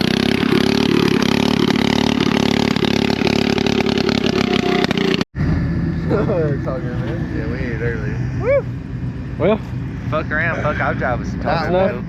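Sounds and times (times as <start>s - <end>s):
riding mower engine running: 0.0s - 12.0s.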